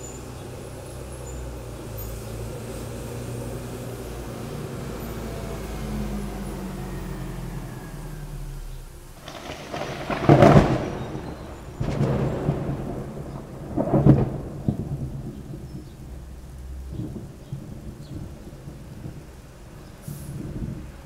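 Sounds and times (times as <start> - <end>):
rain falling: 0.0 - 21.0
thunder rumbling: 3.6 - 21.0.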